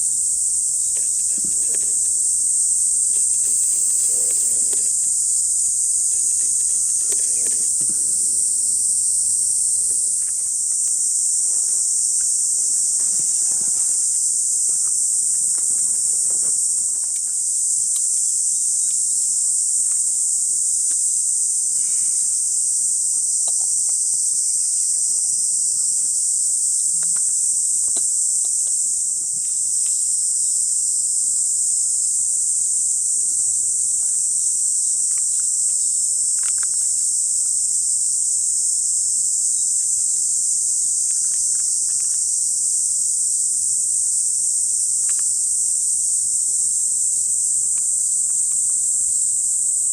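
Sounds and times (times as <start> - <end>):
crickets chirping: 0.0 - 49.9.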